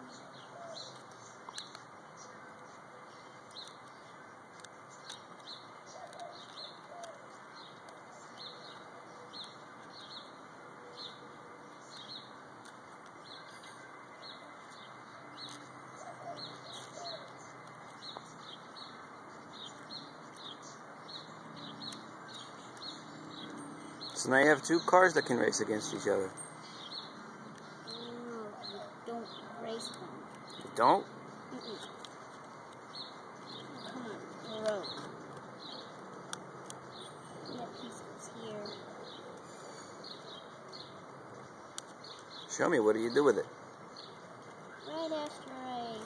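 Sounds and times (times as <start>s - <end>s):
small bird chirping: 0.0s - 46.0s.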